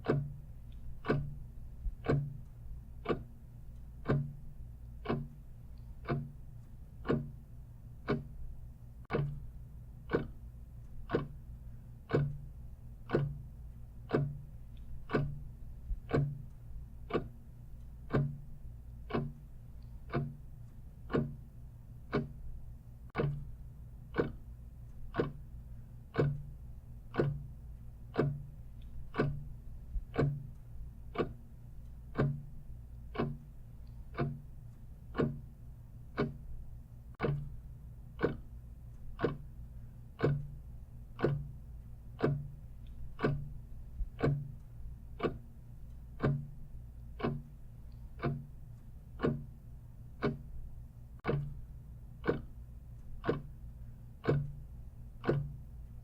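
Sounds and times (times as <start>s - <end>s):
clock ticking: 0.0s - 56.0s
low steady hum: 0.0s - 56.0s.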